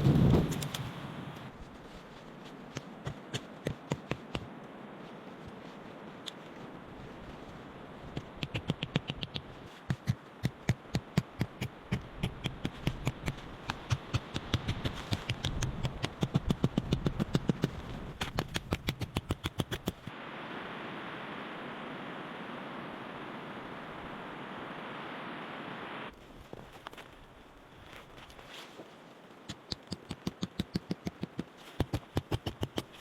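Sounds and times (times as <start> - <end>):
windy hiss: 0.0 - 33.0.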